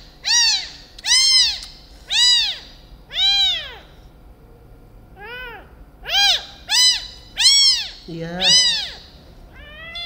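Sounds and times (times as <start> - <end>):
kitten meowing: 0.2 - 3.9, 5.2 - 10.0.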